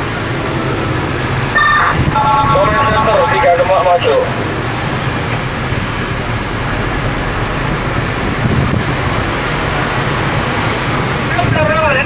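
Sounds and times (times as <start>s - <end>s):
road noise: 0.0s - 12.0s
truck diesel engine rumble: 0.0s - 12.0s.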